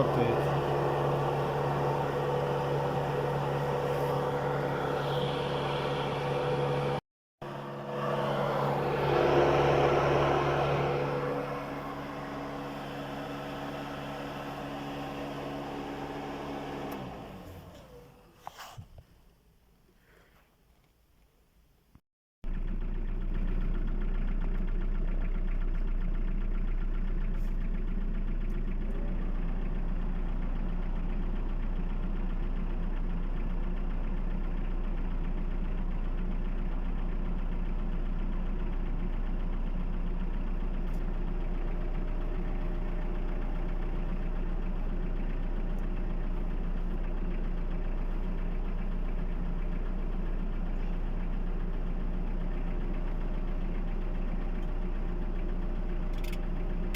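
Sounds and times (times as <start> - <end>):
diesel engine idling: 0.0 - 18.1, 22.4 - 56.9.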